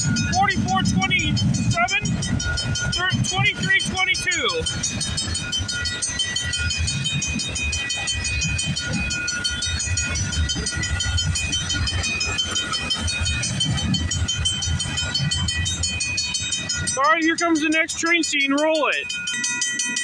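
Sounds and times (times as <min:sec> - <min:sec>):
high-pitched steady tones: 0:00.0 - 0:20.0
train wheels rumbling on rail: 0:00.0 - 0:20.0.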